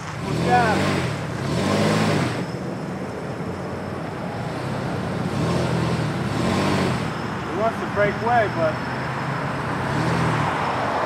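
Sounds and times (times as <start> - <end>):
pickup engine revving: 0.0 - 3.0, 3.9 - 11.0.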